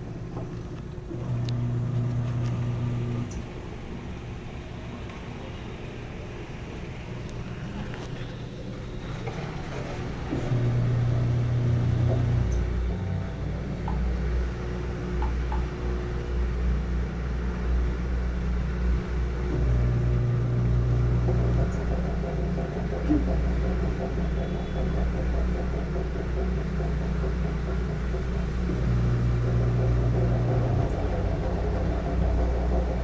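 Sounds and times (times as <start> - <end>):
motor hum: 0.0 - 33.0
washing machine rumbling: 0.0 - 33.0.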